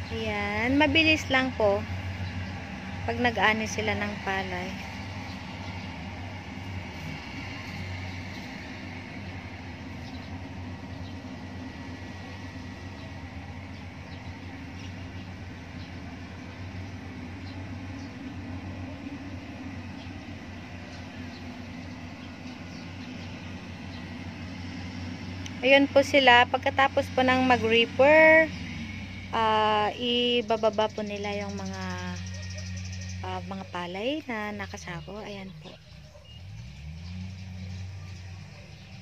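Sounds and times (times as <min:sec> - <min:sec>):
harvester engine droning: 0:00.0 - 0:39.0.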